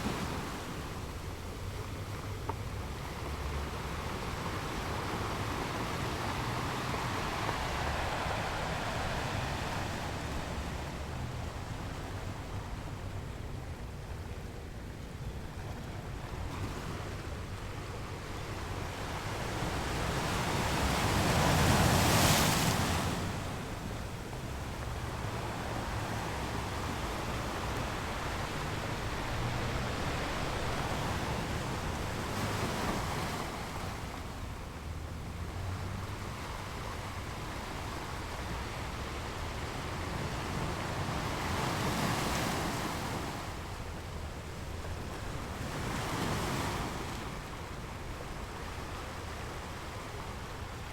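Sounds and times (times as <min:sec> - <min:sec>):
ocean waves breaking on shore: 0:00.0 - 0:50.9.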